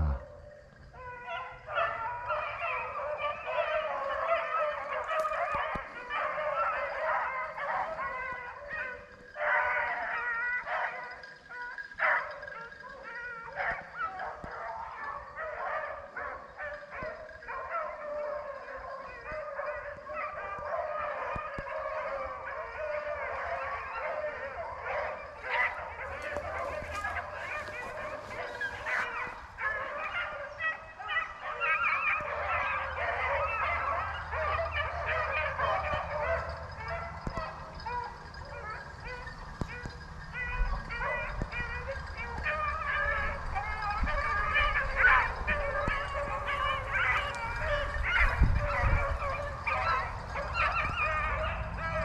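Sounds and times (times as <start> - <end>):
hounds baying and yelping: 0.0 - 52.0.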